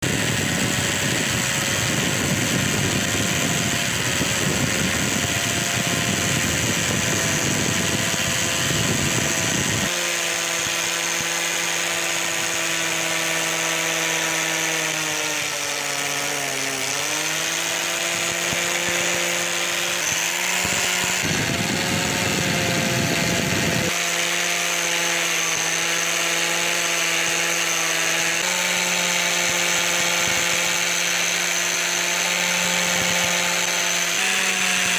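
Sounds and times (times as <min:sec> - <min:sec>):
grinding tool motor whining: 0:00.0 - 0:34.9
harsh grinding on metal: 0:00.0 - 0:34.9.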